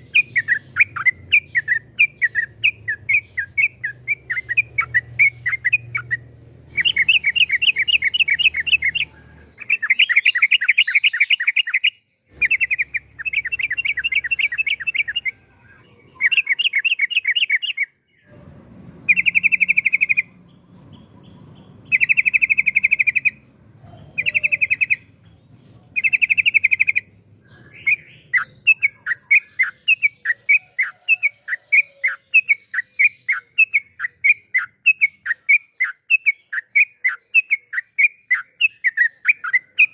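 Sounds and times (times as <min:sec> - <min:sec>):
bird singing rolling trills: 0:00.0 - 0:39.9.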